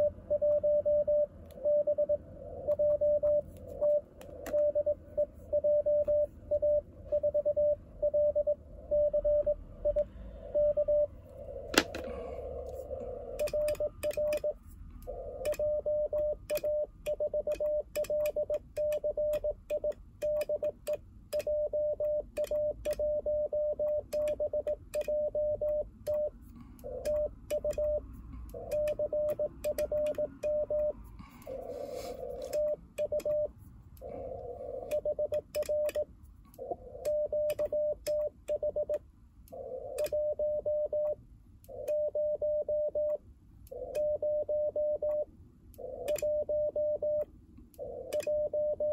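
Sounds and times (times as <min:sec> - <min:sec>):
morse code beeps: 0:00.0 - 0:11.1, 0:13.3 - 0:31.0, 0:32.2 - 0:33.5, 0:34.7 - 0:36.1, 0:37.0 - 0:39.0, 0:40.0 - 0:41.2, 0:41.9 - 0:43.2, 0:43.9 - 0:45.3, 0:46.0 - 0:47.3, 0:48.1 - 0:48.9.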